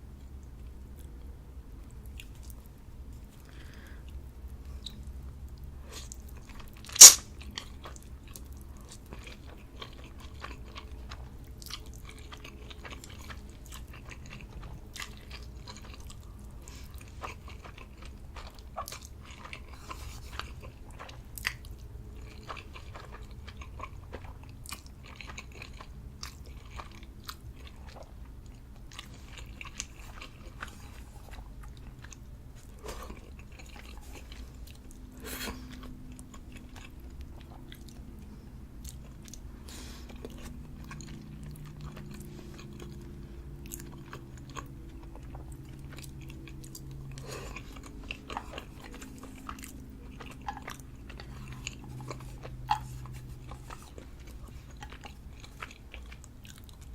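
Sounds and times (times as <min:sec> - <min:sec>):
chewing noodles: 0:00.2 - 0:56.9.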